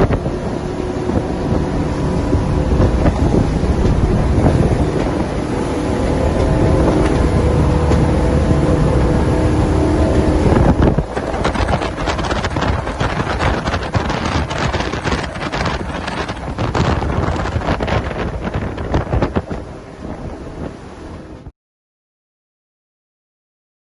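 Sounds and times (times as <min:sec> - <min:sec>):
boat engine hum: 0:00.0 - 0:21.5
water rushing: 0:00.0 - 0:21.5
wind buffeting microphone: 0:00.0 - 0:21.5.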